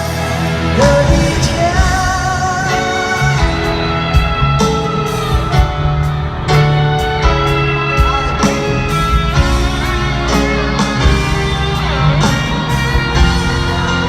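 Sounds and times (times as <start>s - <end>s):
drums beating: 0.0s - 14.0s
electric guitar: 0.0s - 14.0s
live rock band playing: 0.0s - 14.0s.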